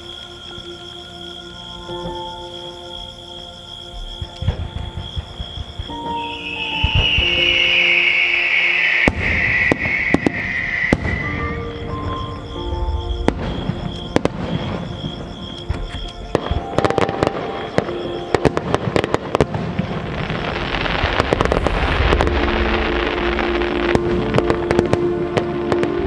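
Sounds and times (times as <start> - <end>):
fireworks bangs and crackling: 4.0 - 26.0.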